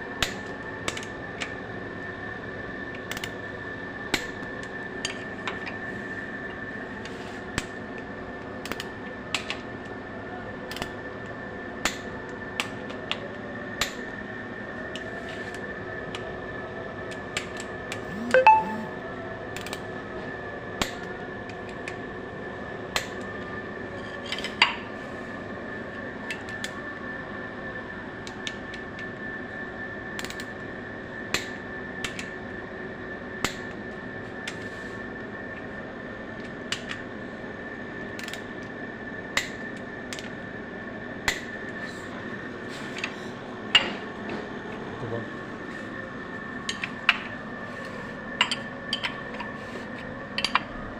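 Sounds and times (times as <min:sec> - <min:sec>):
steady workshop hum: 0:00.0 - 0:50.9.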